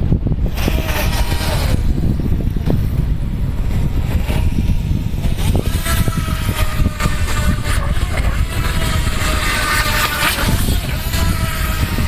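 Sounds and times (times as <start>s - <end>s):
wind buffeting microphone: 0.0s - 12.0s
electric motor whine: 0.4s - 12.0s.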